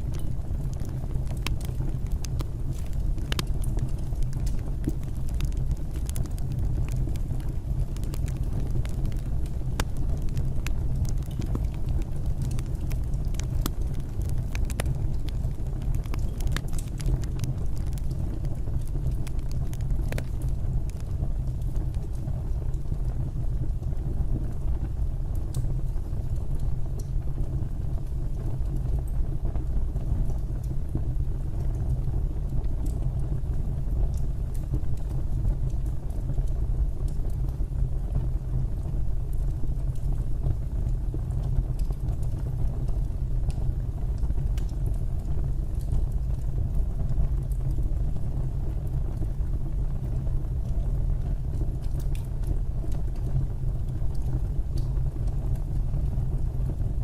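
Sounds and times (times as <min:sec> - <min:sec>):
fire crackles and pops: 0:00.0 - 0:57.0
low rumble of flames: 0:00.0 - 0:57.0.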